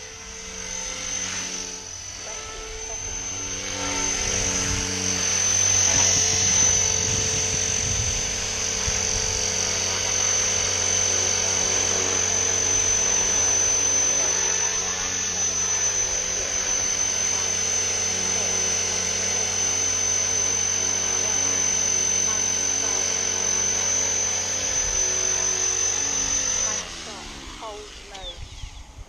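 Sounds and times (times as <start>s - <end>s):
rc helicopter motor whine: 0.0s - 29.0s
rotor and gear drone: 0.0s - 29.0s.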